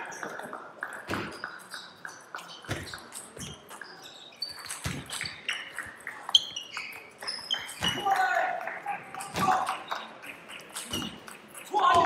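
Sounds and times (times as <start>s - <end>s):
shoes squeaking on floor: 0.0s - 8.5s, 9.2s - 12.0s
table tennis ball hitting rackets: 0.2s - 12.0s.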